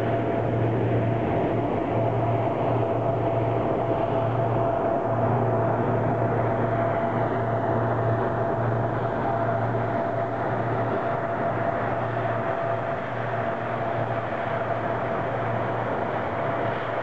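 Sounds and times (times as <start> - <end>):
propeller and exhaust noise: 0.0 - 17.0
turboprop engines whining: 0.0 - 17.0.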